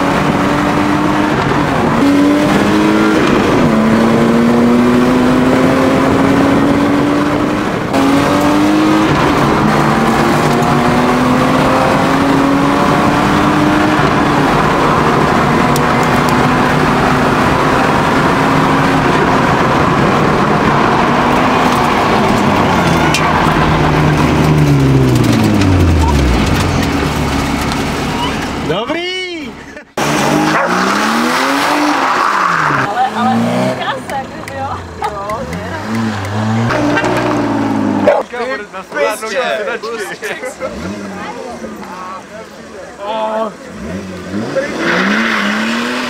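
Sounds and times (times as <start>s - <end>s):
car engine accelerating: 0.0s - 28.8s, 29.5s - 39.0s, 39.8s - 46.0s
road and wind noise: 0.0s - 46.0s.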